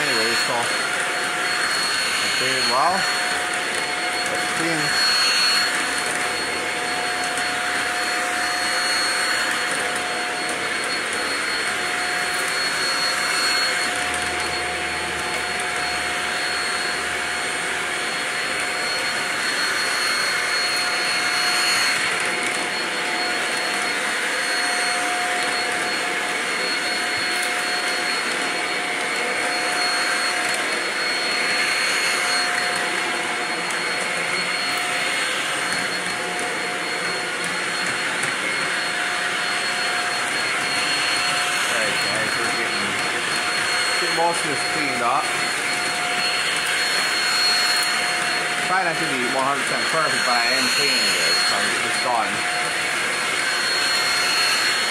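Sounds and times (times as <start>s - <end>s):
vacuum cleaner motor whine: 0.0s - 54.9s.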